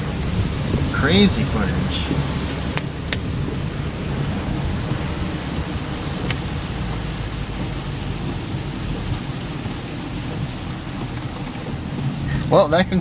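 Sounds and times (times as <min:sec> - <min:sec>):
heavy rain falling: 0:00.0 - 0:13.0
low thunder rumble: 0:00.0 - 0:13.0
sharp tick: 0:02.0 - 0:12.5.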